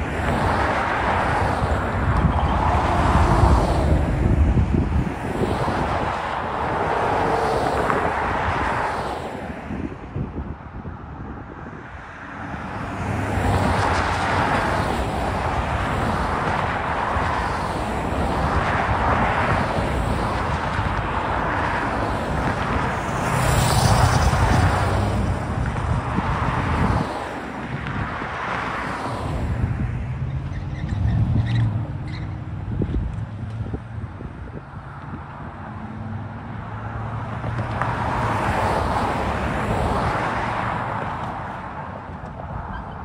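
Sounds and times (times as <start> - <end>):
wind buffeting microphone: 0.0 - 35.8
road traffic passing: 0.0 - 43.0.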